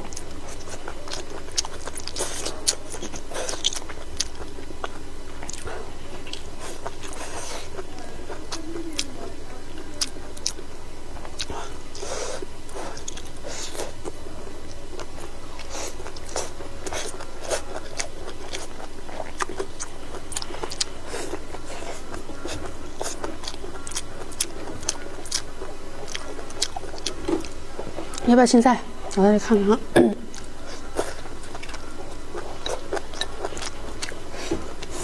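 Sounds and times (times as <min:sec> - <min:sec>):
person chewing: 0:00.0 - 0:35.0
steady low hum: 0:00.0 - 0:35.0.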